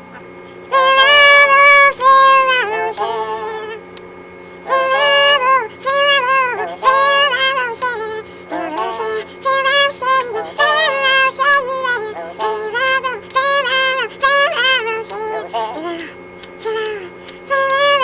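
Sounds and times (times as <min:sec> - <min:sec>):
steady low hum: 0:00.0 - 0:18.0
high-pitched singing: 0:00.7 - 0:03.8, 0:04.6 - 0:18.0.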